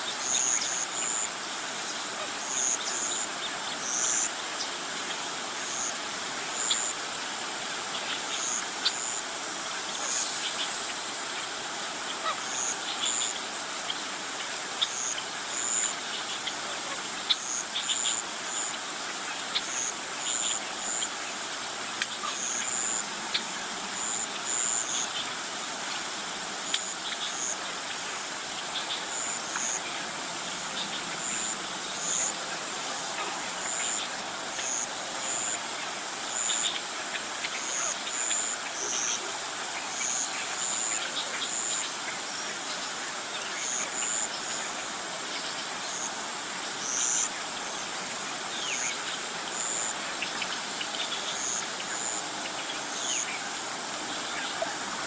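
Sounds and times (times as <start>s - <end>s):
high chirps of insects and birds: 0.0s - 55.0s
steady hiss: 0.0s - 55.0s.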